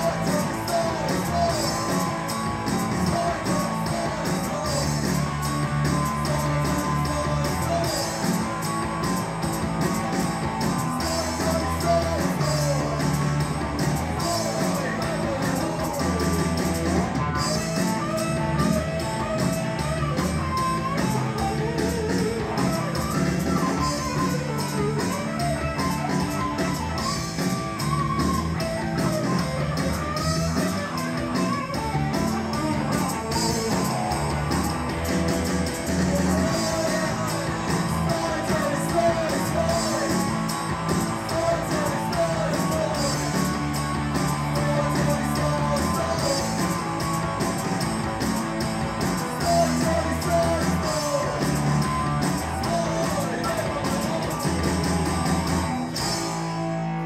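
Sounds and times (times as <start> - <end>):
man singing: 0.0 - 10.1, 10.7 - 27.7, 31.7 - 47.9, 49.0 - 54.9
live rock band playing: 0.0 - 57.0.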